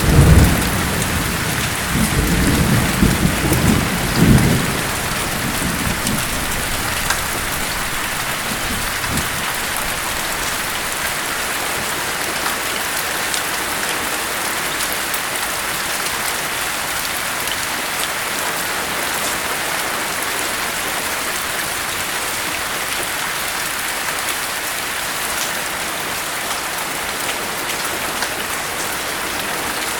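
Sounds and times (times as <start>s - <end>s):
steady rain hiss: 0.0s - 29.9s.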